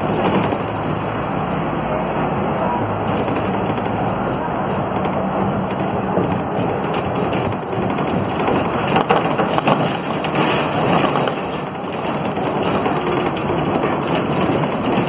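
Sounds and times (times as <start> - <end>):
body panels rattling: 0.0 - 15.0
bus engine and road rumble: 0.0 - 15.0.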